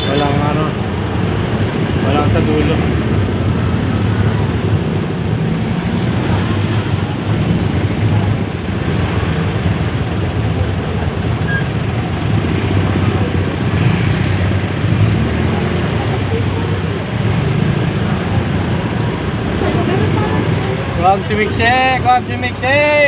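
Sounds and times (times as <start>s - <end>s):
vehicle engine and road noise: 0.0s - 23.0s.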